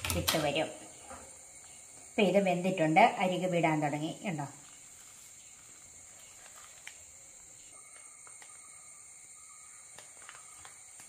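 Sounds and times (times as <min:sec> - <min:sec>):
faint high-pitched hiss: 0:00.0 - 0:11.0.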